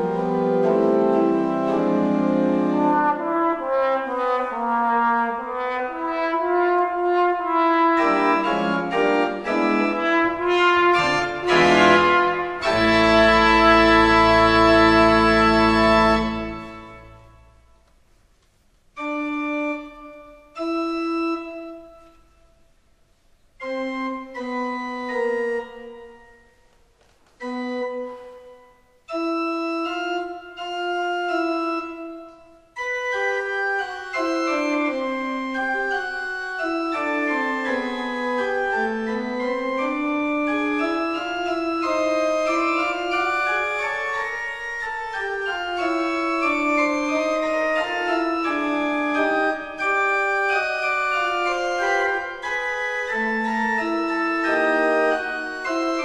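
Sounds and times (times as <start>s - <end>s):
trombone and organ music: 0.0s - 17.6s, 19.0s - 22.1s, 23.6s - 26.6s, 27.4s - 56.0s.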